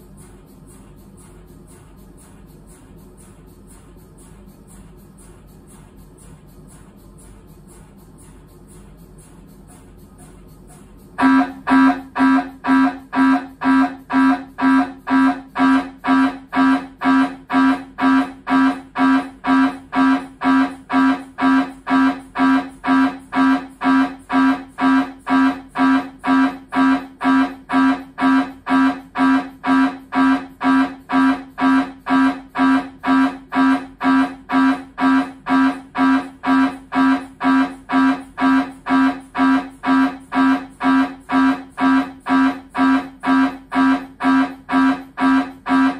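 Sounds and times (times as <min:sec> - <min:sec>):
mri scanner buzzing pulses: 0:00.0 - 0:45.9.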